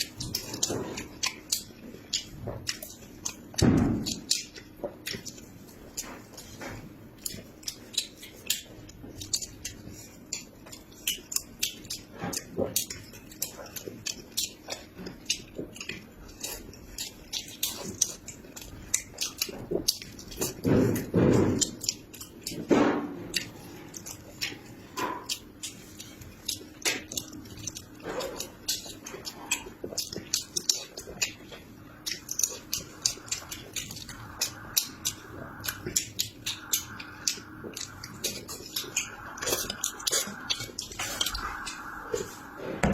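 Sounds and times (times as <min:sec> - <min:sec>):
chewing and biting food: 0:00.0 - 0:42.9.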